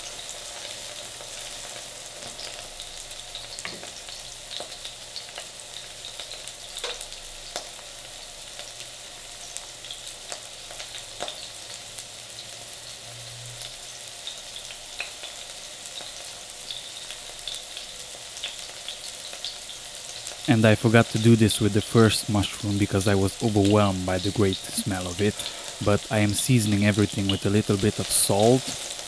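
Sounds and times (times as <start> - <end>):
mushrooms sizzling in oil: 0.0 - 29.0.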